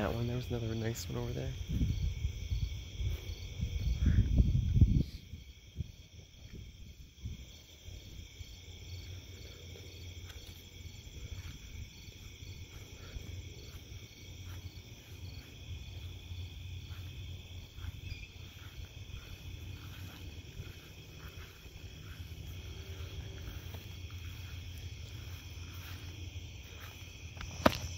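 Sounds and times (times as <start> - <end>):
crickets and insects trilling: 0.0 - 27.9
pulsing insect chirp: 0.0 - 27.9
steady low rumble: 1.4 - 27.9.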